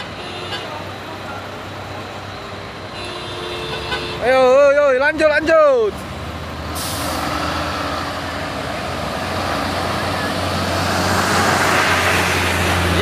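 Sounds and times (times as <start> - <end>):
heavy diesel truck engine: 0.0 - 13.0.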